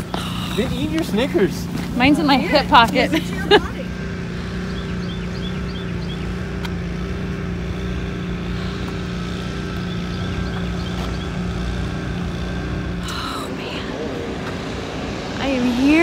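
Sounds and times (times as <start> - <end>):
low mechanical hum: 0.0 - 16.0
rushing background noise: 0.0 - 16.0.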